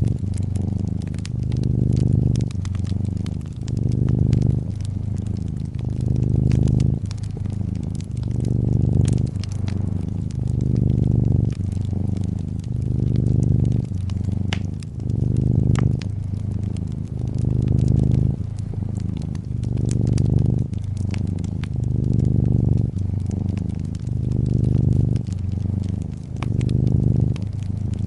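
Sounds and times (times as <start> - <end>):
cat purring: 0.0 - 28.0
wood fire crackling and popping: 0.0 - 28.0.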